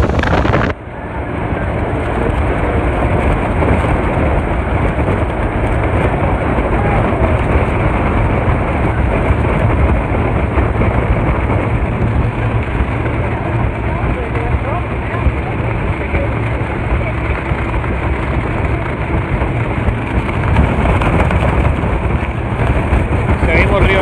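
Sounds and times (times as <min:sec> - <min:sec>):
speedboat engine rumble: 0:00.0 - 0:24.0
water and wind rushing: 0:00.0 - 0:24.0.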